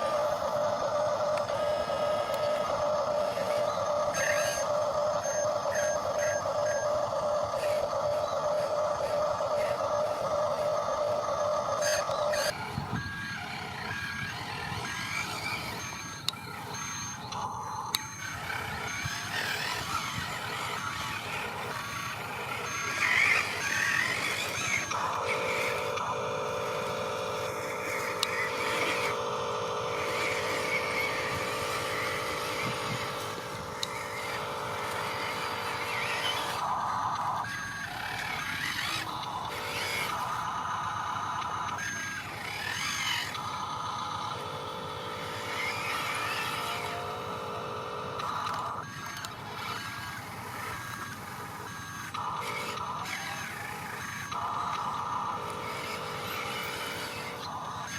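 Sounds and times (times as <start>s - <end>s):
electric motors whining: 0.0s - 57.9s.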